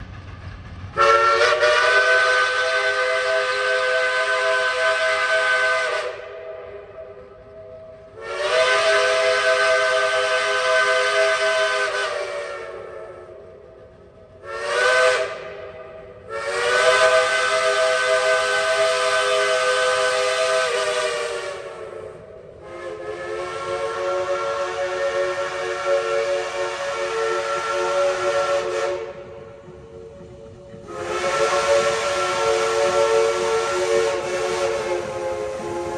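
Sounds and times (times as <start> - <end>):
low steam hiss: 0.0 - 35.9
steam locomotive chime whistles: 0.9 - 35.9.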